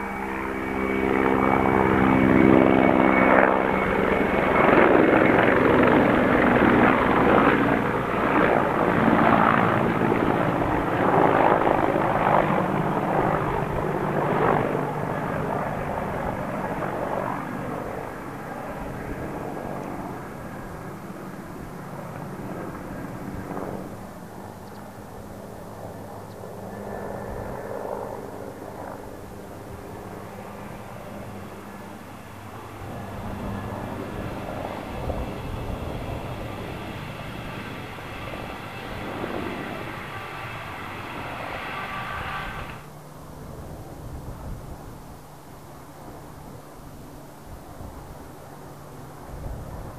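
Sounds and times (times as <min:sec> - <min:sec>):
helicopter main rotor: 0:00.0 - 0:49.9
helicopter turbine whine: 0:00.0 - 0:49.9.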